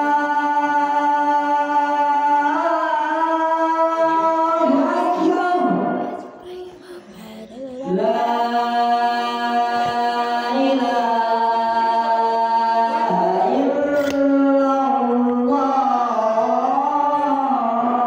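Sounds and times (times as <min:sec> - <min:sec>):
man chanting call to prayer: 0:00.0 - 0:18.0.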